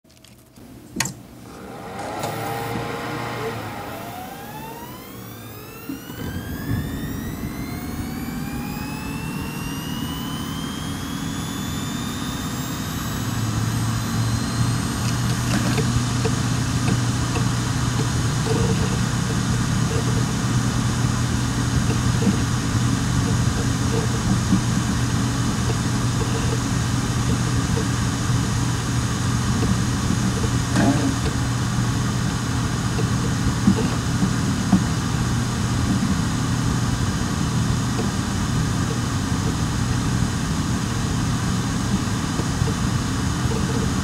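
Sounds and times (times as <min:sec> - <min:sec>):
cooling fans whining and whirring: 0:00.1 - 0:44.0.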